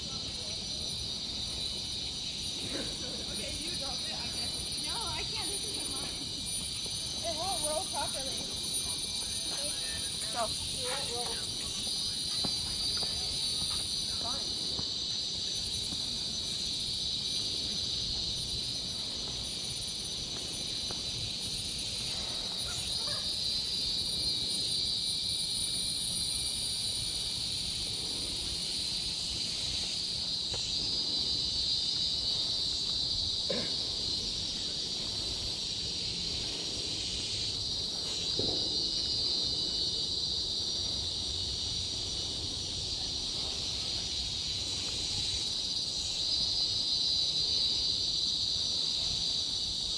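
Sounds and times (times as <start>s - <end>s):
forest insects droning: 0.0s - 49.9s.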